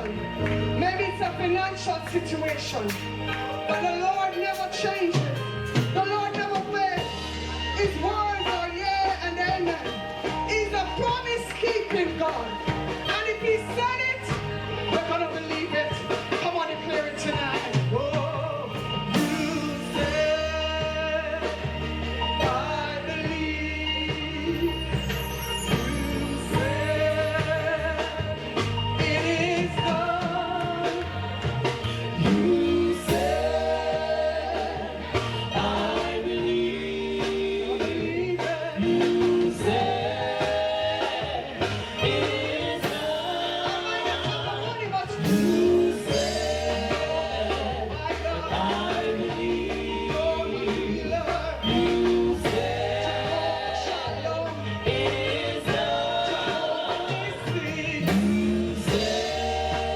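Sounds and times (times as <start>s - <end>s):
band accompaniment with bass: 0.0s - 59.9s
choir singing gospel: 0.0s - 59.9s.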